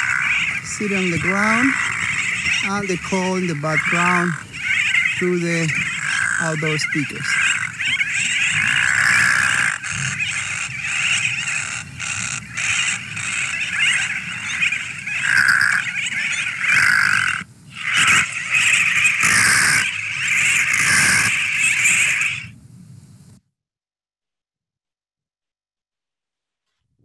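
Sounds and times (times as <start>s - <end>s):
seabird calls over loudspeaker: 0.0s - 22.6s.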